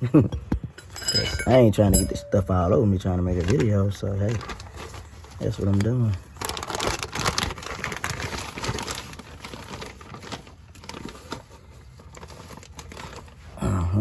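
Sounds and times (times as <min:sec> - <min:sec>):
rustling and crinkling: 0:00.6 - 0:13.6.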